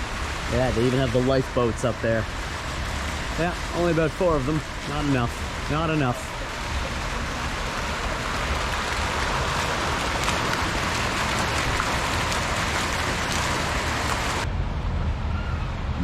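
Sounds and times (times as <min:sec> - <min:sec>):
rushing water spray: 0:00.0 - 0:14.5.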